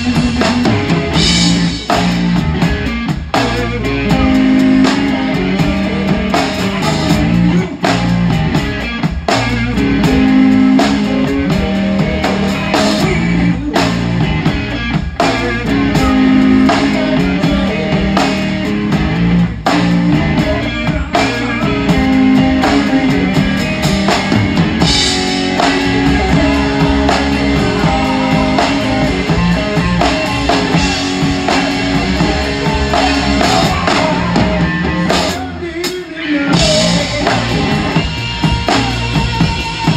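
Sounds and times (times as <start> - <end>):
drum kit beaten hard: 0.0 - 39.9
rock band chords: 0.0 - 39.9.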